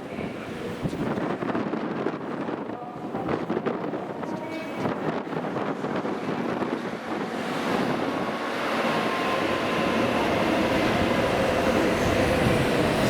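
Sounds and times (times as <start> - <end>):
train rushing past platform: 0.3 - 13.0.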